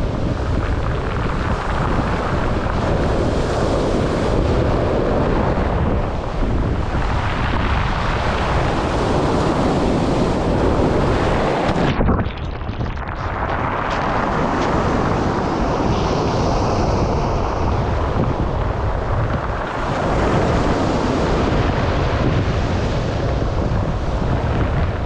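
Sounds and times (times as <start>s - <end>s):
surf washing on shore: 0.0s - 25.0s
wind rumbling on microphone: 0.0s - 25.0s.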